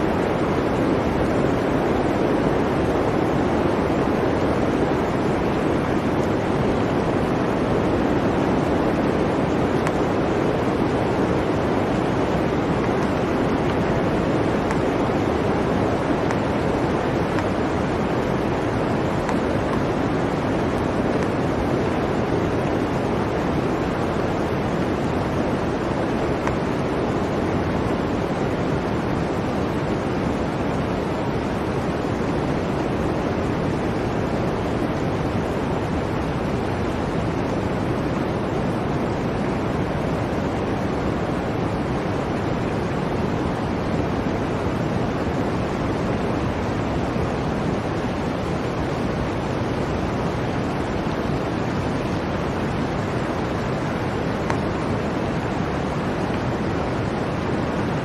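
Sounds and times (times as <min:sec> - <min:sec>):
blizzard wind blowing: 0:00.0 - 0:58.0.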